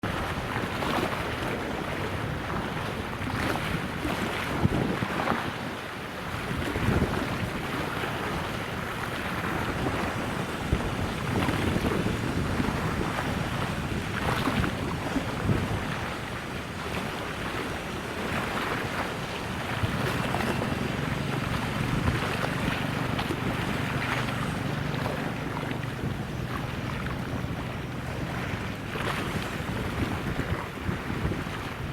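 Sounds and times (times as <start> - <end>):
river water: 0.0 - 31.9
wind buffeting microphone: 0.0 - 31.9
low engine hum: 6.2 - 31.9.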